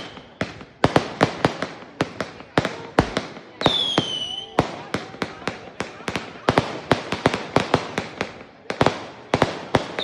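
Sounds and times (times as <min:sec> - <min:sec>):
fireworks cracking: 0:00.0 - 0:10.0.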